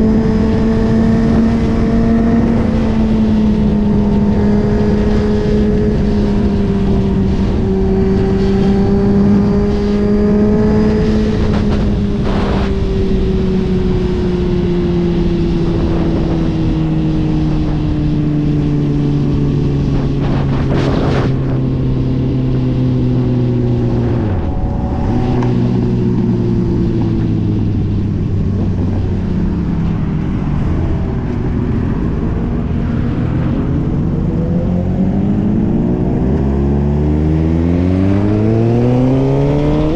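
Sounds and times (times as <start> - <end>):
motorcycle engine slowing: 0.0 - 39.2
wind rushing over microphone: 0.0 - 39.9.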